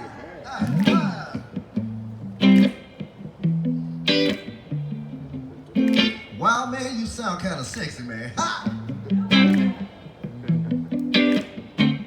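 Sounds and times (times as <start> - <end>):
guitar strumming chords: 0.7 - 7.2, 7.8 - 12.0.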